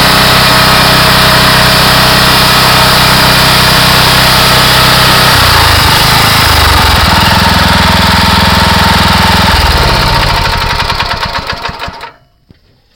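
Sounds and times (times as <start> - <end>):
pressure washer engine running: 0.0 - 12.2.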